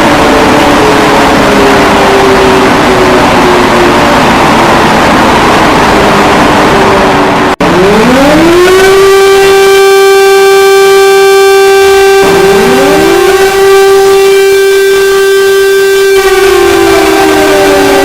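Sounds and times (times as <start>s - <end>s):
emergency alarm siren: 0.0s - 18.0s.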